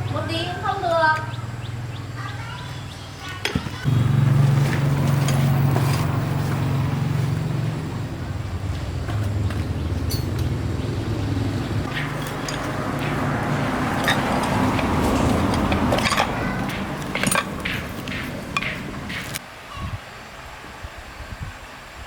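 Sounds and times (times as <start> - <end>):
engine humming: 0.0 - 19.4.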